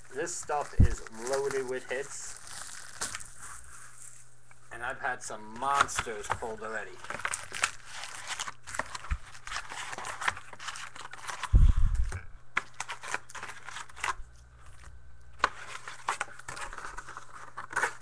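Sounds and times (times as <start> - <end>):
foil packs crinkling: 0.0 - 4.3, 5.5 - 18.0.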